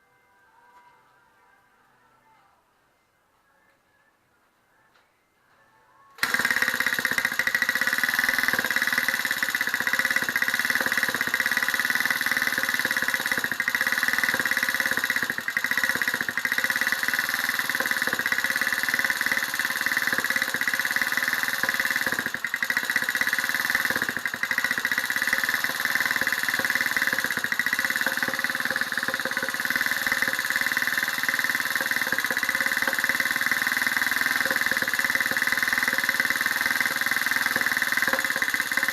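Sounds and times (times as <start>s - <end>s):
small engine running with rattle: 6.2s - 38.9s.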